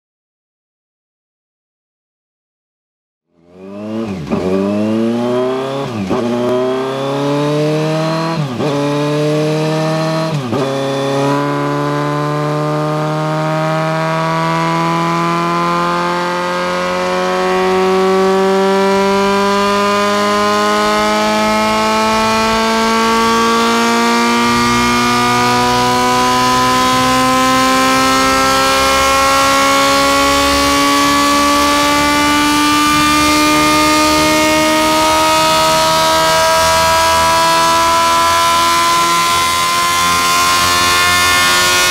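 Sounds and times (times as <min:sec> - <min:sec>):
motorcycle engine revving: 0:03.3 - 0:41.9.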